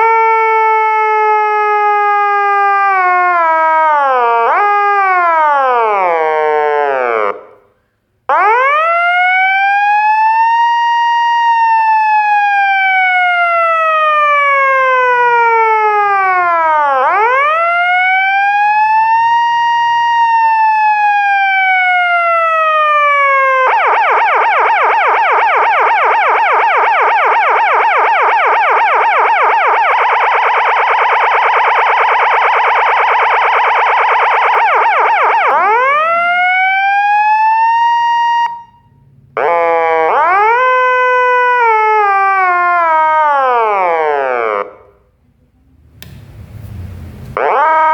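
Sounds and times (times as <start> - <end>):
fire engine siren: 0.0 - 7.6, 8.3 - 45.0, 47.4 - 47.9.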